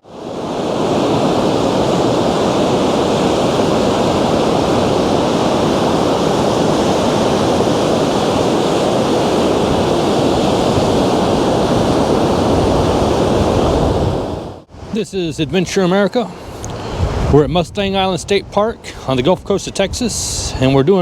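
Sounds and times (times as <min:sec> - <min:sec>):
wind on microphone: 0:00.0 - 0:15.7, 0:16.3 - 0:21.0
surf breaking: 0:00.0 - 0:18.1.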